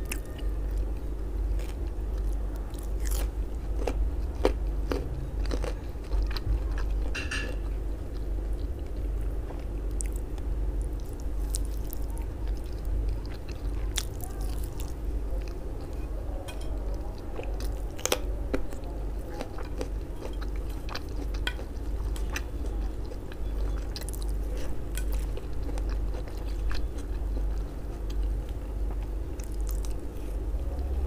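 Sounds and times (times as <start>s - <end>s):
chewing flatbread: 0.0s - 31.0s
steady low hum: 0.0s - 31.0s.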